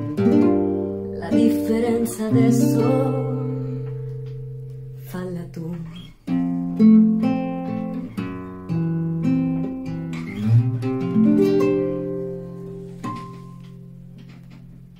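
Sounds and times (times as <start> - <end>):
classical guitar playing: 0.0 - 14.9.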